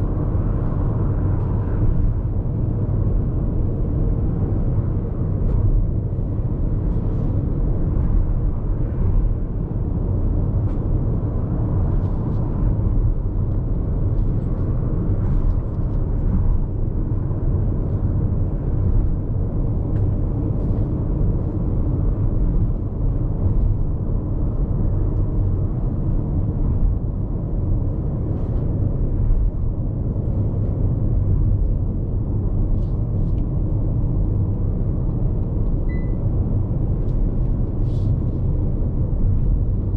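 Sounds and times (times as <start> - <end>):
road and tyre noise in car: 0.0 - 39.9.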